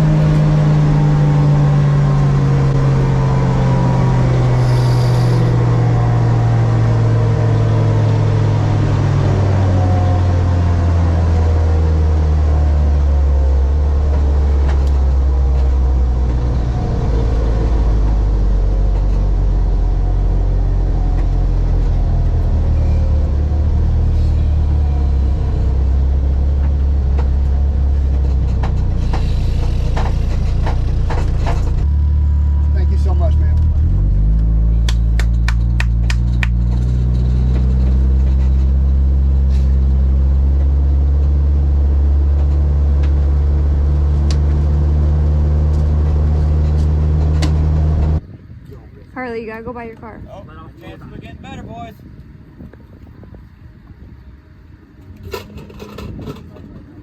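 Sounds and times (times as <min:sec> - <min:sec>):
car engine running: 0:00.0 - 0:48.3.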